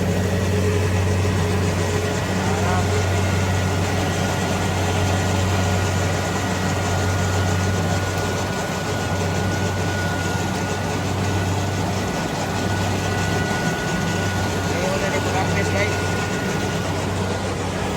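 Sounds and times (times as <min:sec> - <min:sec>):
combine harvester running: 0:00.0 - 0:17.9.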